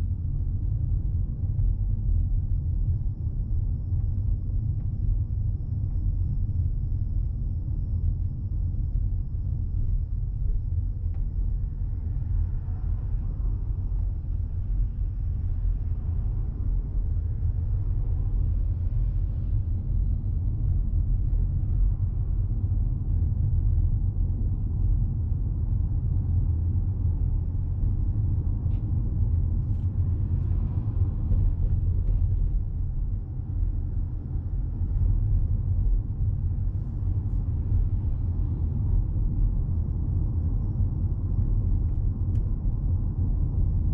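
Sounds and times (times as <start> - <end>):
road rumble inside car: 0.0 - 43.9.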